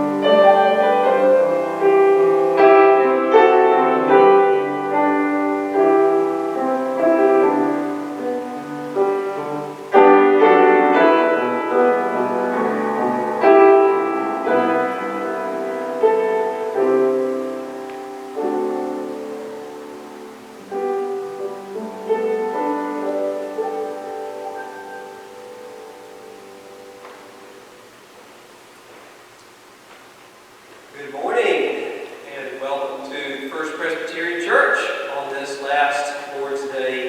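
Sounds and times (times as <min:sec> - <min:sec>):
slow solo piano piece: 0:00.0 - 0:31.0.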